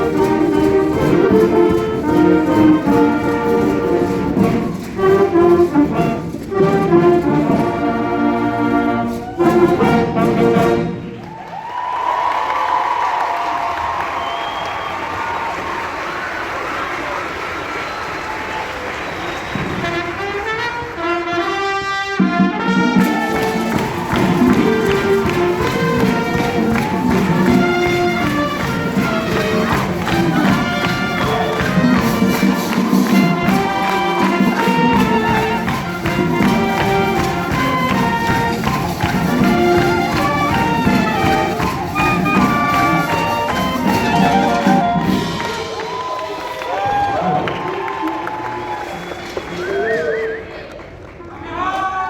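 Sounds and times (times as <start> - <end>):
wind band playing: 0.0 - 11.5, 18.9 - 50.8.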